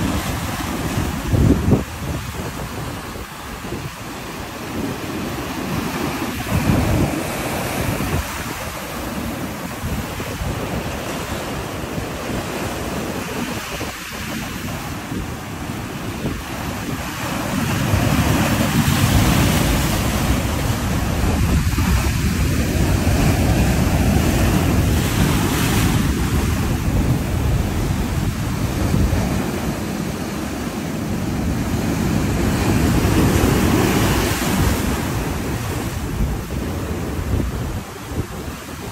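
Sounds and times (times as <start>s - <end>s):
heavy surf breaking on rocks: 0.0s - 38.9s
wind buffeting microphone: 0.0s - 38.9s.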